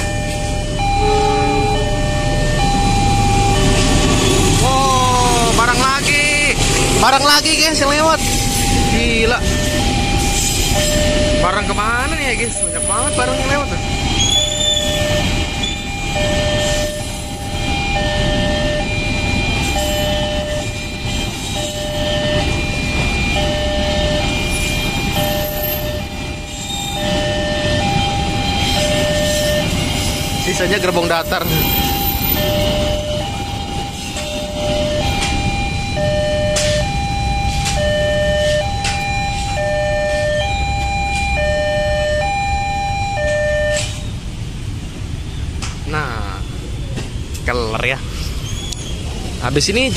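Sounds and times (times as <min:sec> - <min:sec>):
two-tone crossing alarm: 0:00.0 - 0:44.3
road traffic idling: 0:00.0 - 0:49.9
train wagons rumbling: 0:00.0 - 0:49.9.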